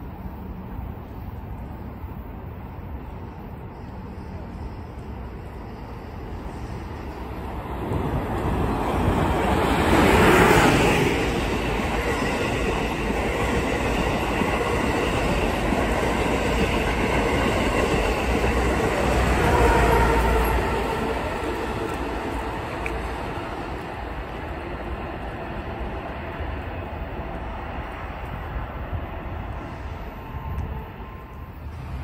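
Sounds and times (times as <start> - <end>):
train passing through station: 0.0 - 32.0.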